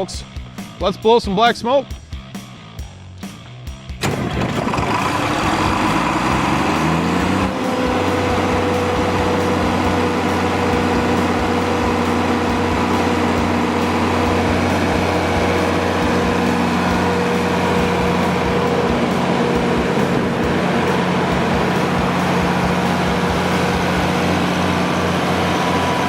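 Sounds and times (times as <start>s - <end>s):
diesel generator engine starting: 3.9s - 26.0s.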